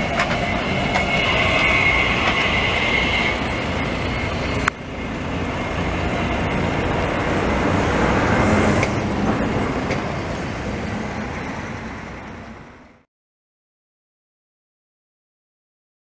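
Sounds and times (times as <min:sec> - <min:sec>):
tram rumbling past: 0:00.0 - 0:13.1.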